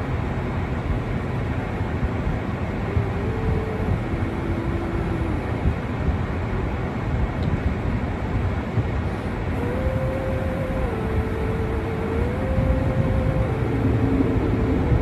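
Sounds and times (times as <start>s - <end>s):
faint hum: 0.0s - 15.0s
vehicle engine rumble: 0.0s - 15.0s.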